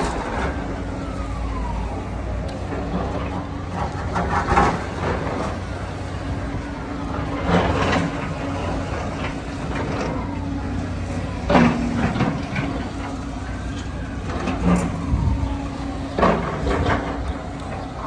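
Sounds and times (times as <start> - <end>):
engine humming steadily: 0.0 - 18.0.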